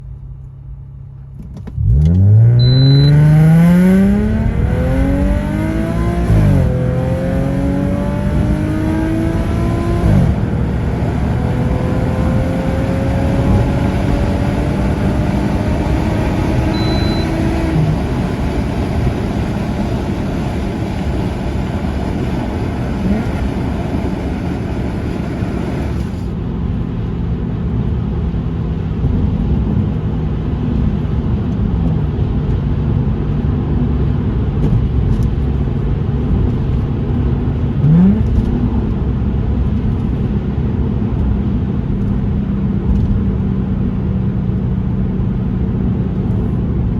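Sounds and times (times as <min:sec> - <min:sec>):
car engine accelerating through gears: 0:01.3 - 0:26.4, 0:27.1 - 0:46.9.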